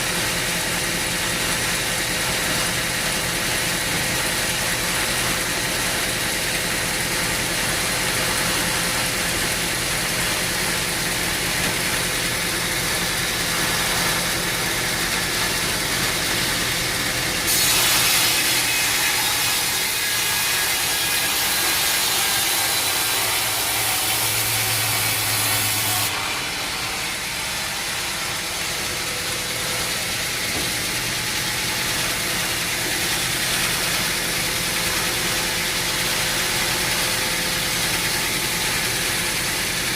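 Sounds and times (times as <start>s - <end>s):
saw cutting through log: 0.0s - 39.9s
sawmill machinery running: 0.0s - 39.9s.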